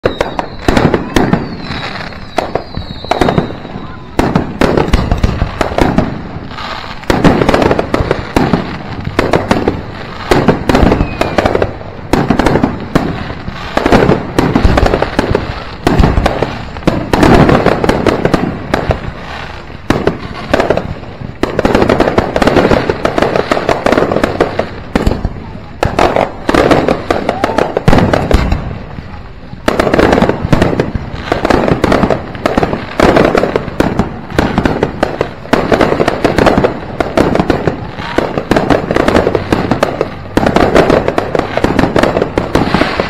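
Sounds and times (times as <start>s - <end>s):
firework bangs and crackling: 0.0s - 43.0s
firework whistling: 0.0s - 43.0s.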